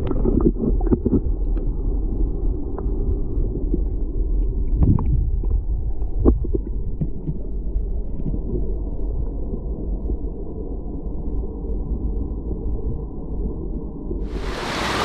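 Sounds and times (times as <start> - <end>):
muffled underwater water rush: 0.0 - 15.0.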